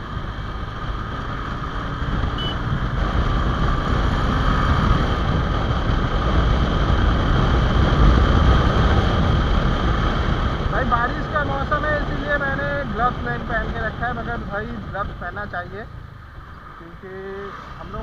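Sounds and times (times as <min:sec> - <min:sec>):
wind buffeting microphone: 0:00.0 - 0:15.2.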